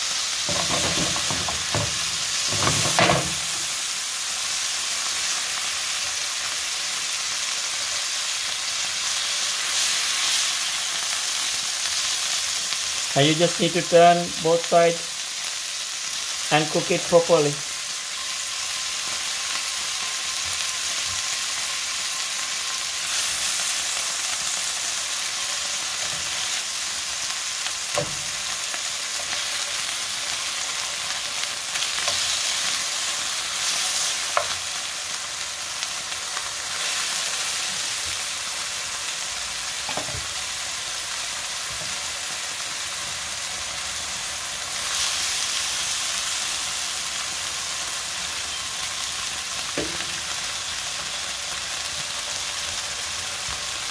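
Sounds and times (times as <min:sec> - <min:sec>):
steak sizzling in a frying pan: 0:00.0 - 0:53.9.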